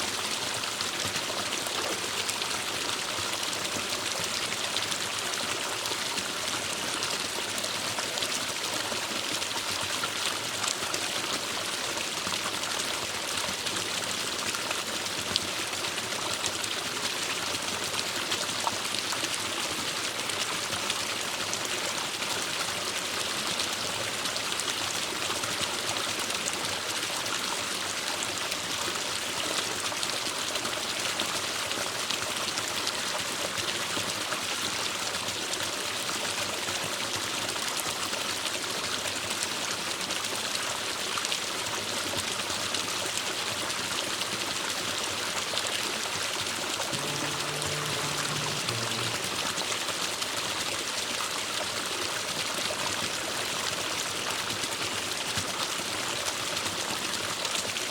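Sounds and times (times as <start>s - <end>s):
stream babbling over rocks: 0.0s - 57.9s
water splashes and drips: 0.0s - 57.9s.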